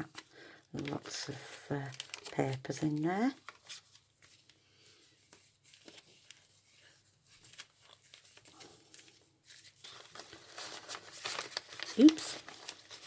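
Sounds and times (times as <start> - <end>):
paper and card rustling: 0.0 - 13.0.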